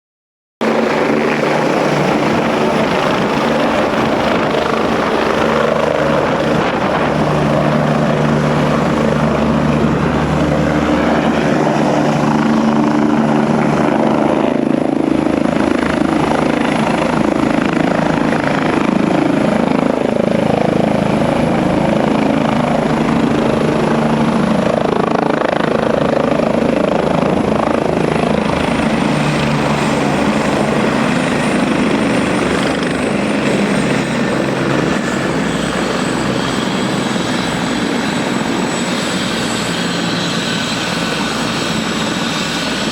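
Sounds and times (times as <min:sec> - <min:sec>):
helicopter rotor and engine: 0:00.6 - 0:42.9.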